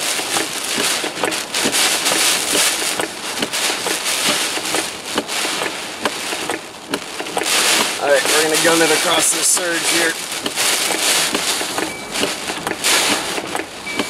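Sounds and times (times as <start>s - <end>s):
rain striking vehicle body: 0.0s - 14.0s.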